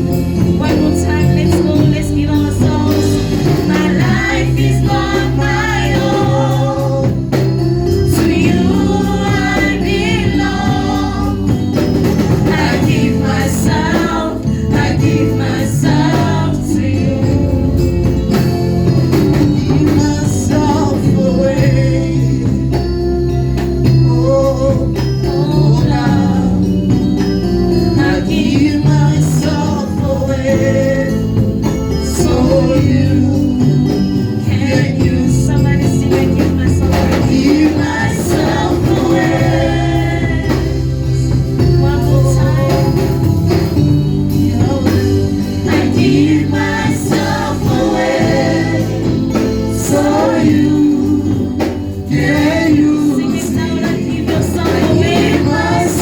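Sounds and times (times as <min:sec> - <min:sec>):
instrumental accompaniment: 0:00.0 - 0:56.0
voices singing gospel: 0:00.0 - 0:56.0.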